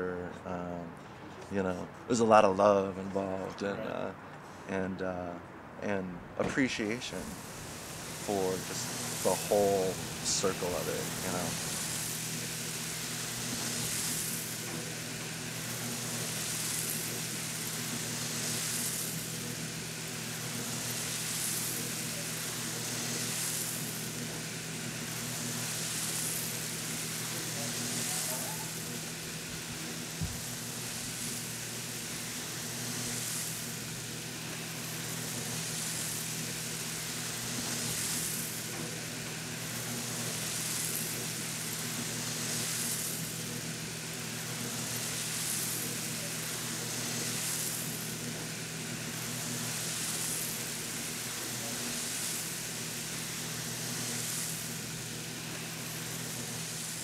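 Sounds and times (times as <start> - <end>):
motor and fan hum: 0.0 - 57.0
coffee beans rustling hiss: 6.6 - 57.0.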